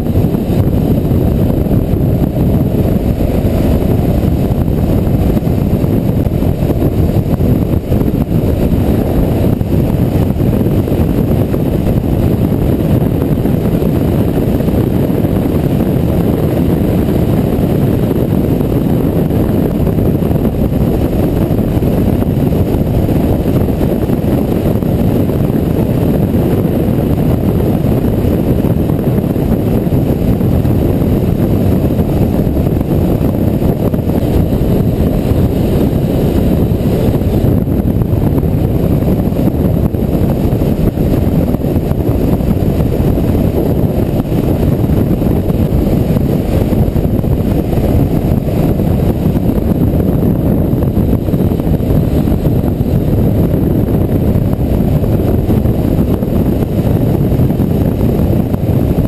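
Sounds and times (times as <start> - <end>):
motorcycle engine: 0.0 - 59.0
road noise: 0.0 - 59.0
wind rushing over microphone: 0.0 - 59.0.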